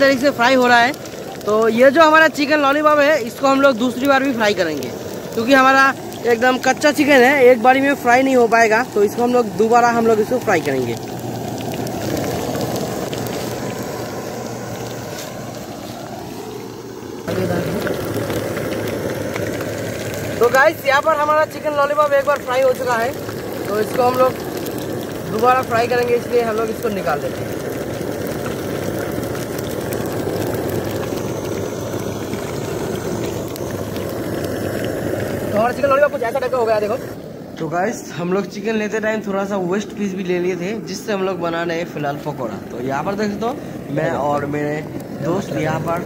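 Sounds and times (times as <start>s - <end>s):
chicken deep-frying in oil: 0.0s - 46.0s.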